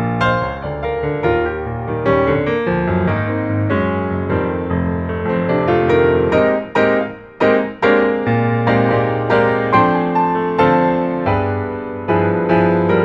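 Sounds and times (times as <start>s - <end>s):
piano-like keyboard music: 0.0s - 13.0s.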